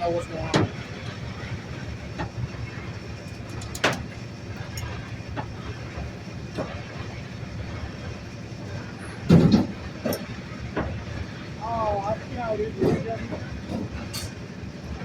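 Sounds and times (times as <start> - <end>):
garbage truck engine rumbling: 0.0 - 15.0.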